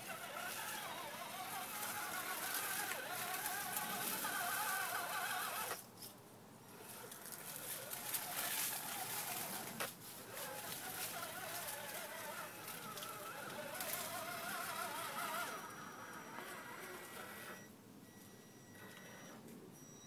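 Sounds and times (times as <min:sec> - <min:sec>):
electric motor and gears whining: 0:00.0 - 0:05.9, 0:06.6 - 0:17.7.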